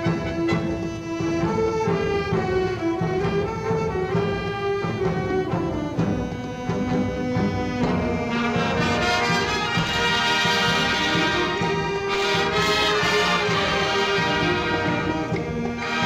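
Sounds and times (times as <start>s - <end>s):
brass band playing held chords: 0.0s - 16.0s.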